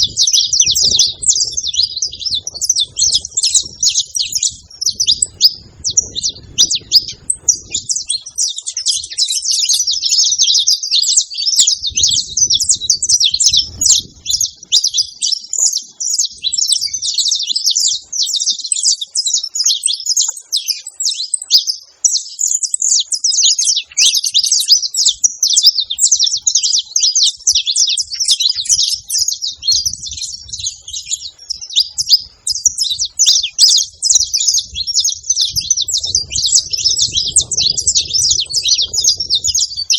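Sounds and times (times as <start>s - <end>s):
finch song high chirping: 0.0s - 39.9s.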